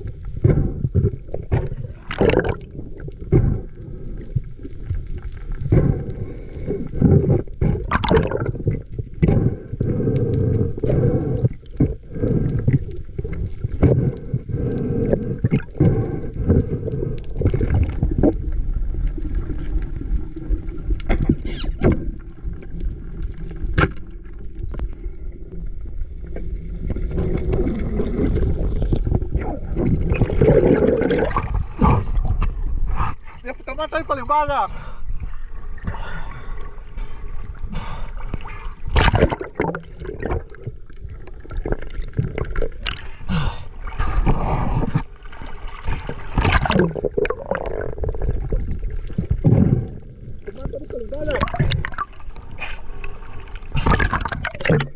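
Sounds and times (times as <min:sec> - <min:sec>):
water splashing: 0:00.0 - 0:09.7, 0:10.8 - 0:25.2, 0:26.3 - 0:32.2, 0:35.3 - 0:54.9
underwater rushing water: 0:00.0 - 0:32.8, 0:35.2 - 0:54.9.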